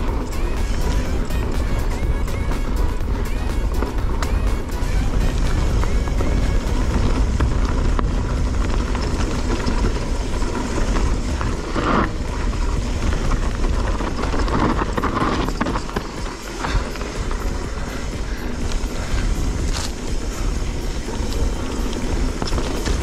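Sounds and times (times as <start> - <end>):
bike tyres on dirt: 0.0 - 23.0
wind rumble on microphone: 0.0 - 23.0.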